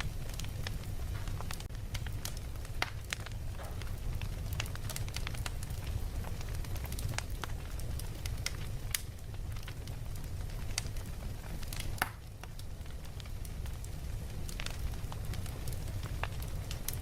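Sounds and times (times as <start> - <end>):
fire crackling: 0.0 - 17.0
low rumble: 0.0 - 17.0.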